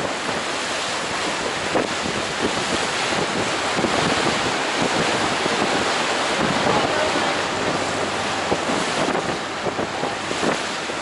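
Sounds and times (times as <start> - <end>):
water washing beneath boat: 0.0 - 11.0
wind rushing over microphone: 0.0 - 11.0.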